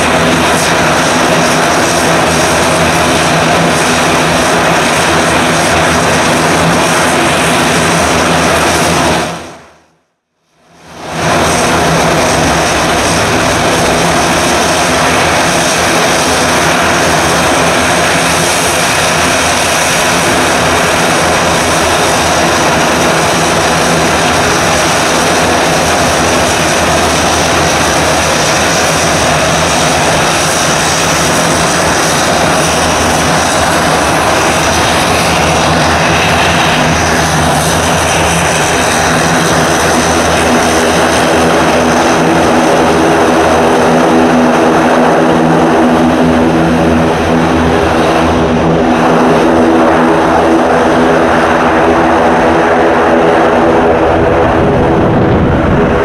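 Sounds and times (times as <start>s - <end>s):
propeller drone: 0.0s - 56.0s
turbine whine: 0.0s - 56.0s.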